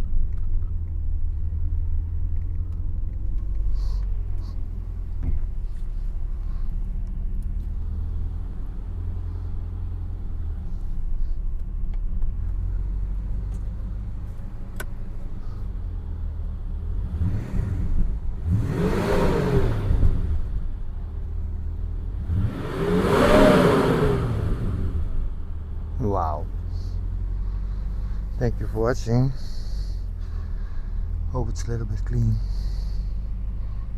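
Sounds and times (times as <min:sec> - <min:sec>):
car engine rumbling and revving: 0:00.0 - 0:33.9.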